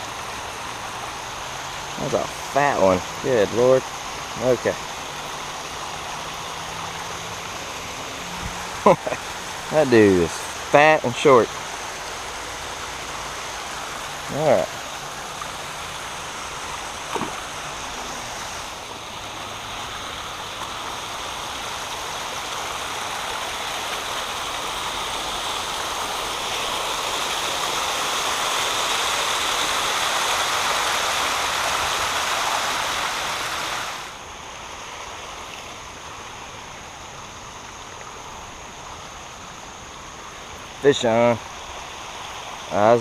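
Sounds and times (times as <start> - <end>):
water rushing over spillway: 0.0 - 43.0.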